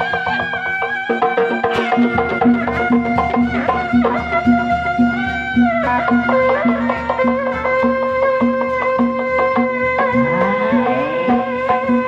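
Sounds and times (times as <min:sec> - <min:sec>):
hand drum strokes: 0:00.0 - 0:12.0
reedy shawm melody: 0:00.0 - 0:12.0.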